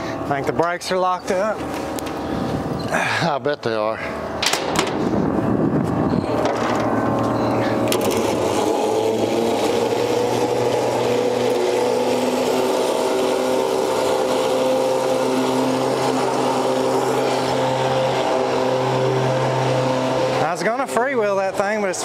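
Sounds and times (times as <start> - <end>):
electric winch motor running: 4.0 - 22.0.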